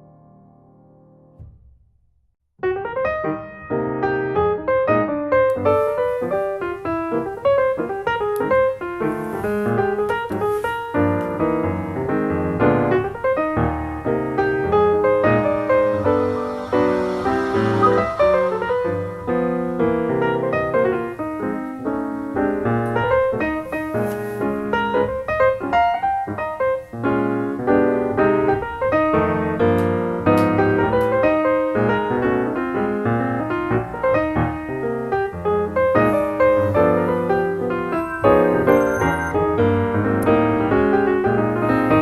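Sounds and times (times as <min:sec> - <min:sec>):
piano piece: 0:00.0 - 0:01.7, 0:02.6 - 0:42.0.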